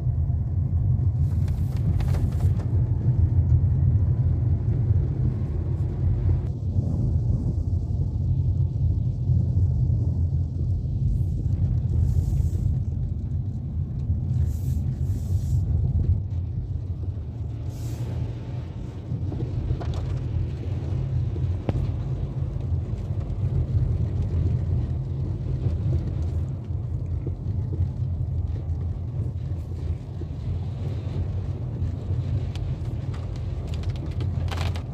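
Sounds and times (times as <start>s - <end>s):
car engine rumble: 0.0s - 34.9s
tyres on wet road: 0.0s - 34.9s.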